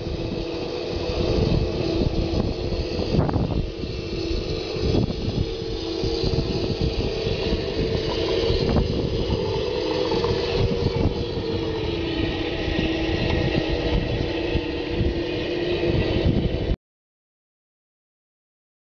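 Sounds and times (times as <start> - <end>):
model tank driving: 0.0 - 16.8.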